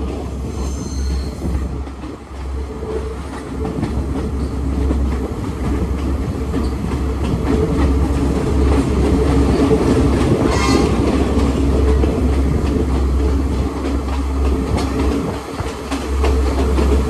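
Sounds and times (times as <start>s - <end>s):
clicking over rail joints: 0.0s - 17.0s
train wheels rumbling on rails: 0.0s - 17.0s.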